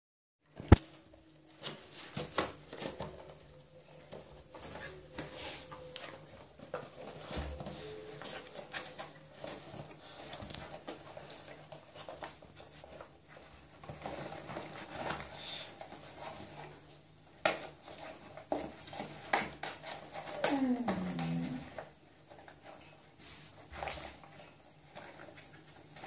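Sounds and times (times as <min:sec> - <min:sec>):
dog rummaging in cardboard: 0:01.5 - 0:26.0.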